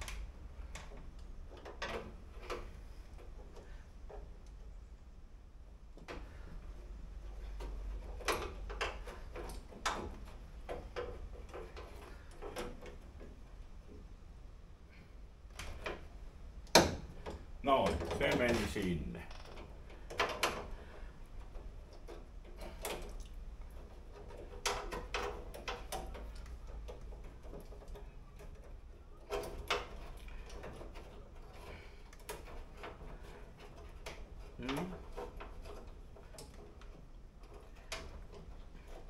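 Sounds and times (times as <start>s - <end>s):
metallic clicks and knocks of parts: 0.0s - 4.6s, 6.0s - 14.1s, 15.5s - 39.0s.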